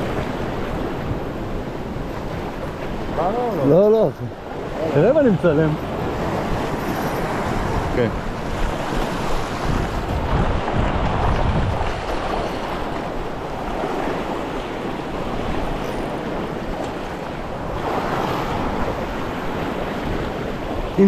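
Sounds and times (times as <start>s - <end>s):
wind noise on microphone: 0.0s - 3.3s, 5.6s - 21.0s
sea waves splashing: 0.0s - 21.0s.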